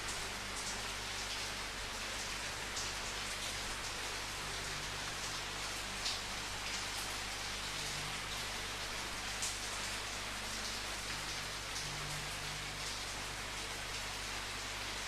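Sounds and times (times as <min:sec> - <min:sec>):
raindrops pattering: 0:00.0 - 0:14.1
rain falling: 0:00.0 - 0:15.0.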